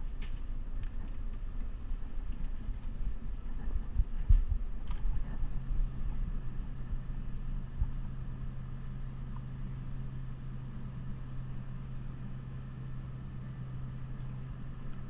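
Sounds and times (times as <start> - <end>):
refrigeration machinery hum: 0.0 - 15.0.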